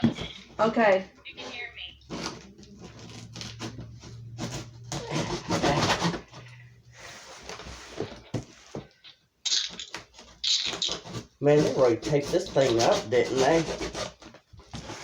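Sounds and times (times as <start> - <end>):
cardboard rustling and scraping: 0.0 - 0.8, 1.4 - 8.9, 10.0 - 15.0.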